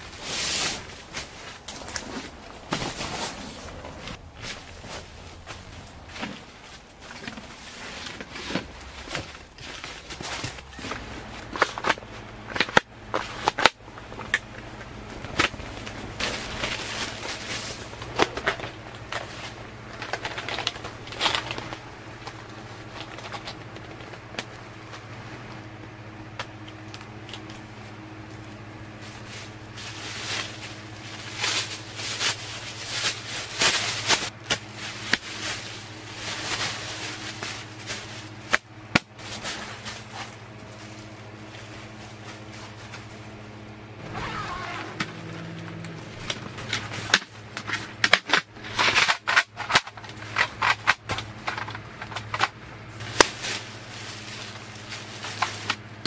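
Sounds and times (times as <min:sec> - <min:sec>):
plastic bag rustling: 0:00.0 - 0:25.6, 0:27.4 - 0:56.0
steady low hum: 0:00.0 - 0:56.0.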